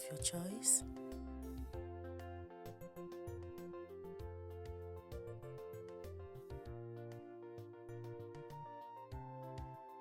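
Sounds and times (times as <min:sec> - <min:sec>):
soft instrumental music with beat: 0:00.0 - 0:10.0.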